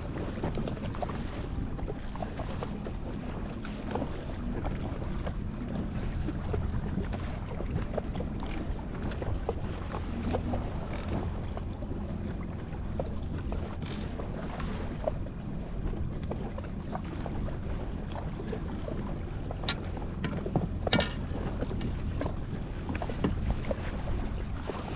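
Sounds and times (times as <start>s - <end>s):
jet ski engine running: 0.0s - 24.9s
water splashing against hull: 0.0s - 24.9s.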